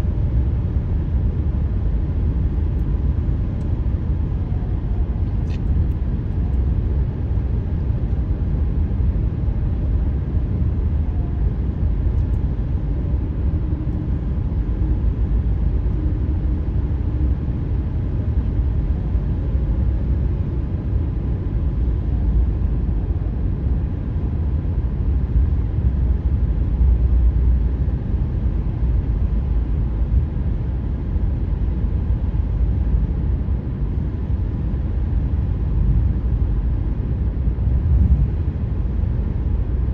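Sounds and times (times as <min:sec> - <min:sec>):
faint hum: 0:00.0 - 0:39.9.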